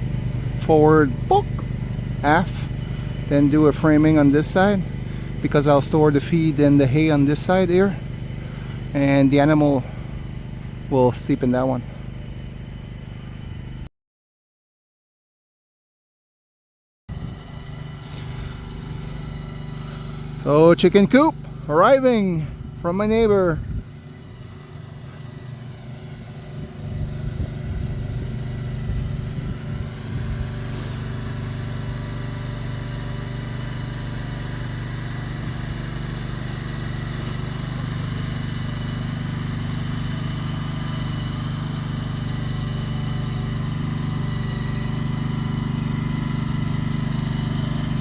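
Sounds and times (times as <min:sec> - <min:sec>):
vehicle engine running: 0:00.0 - 0:13.9, 0:17.1 - 0:48.0.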